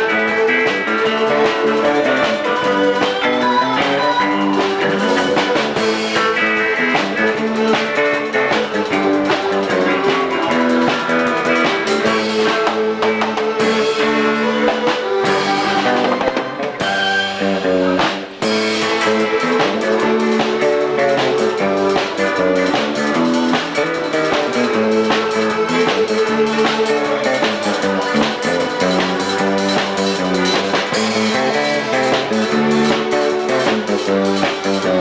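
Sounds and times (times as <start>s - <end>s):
rock band playing: 0.0s - 35.0s.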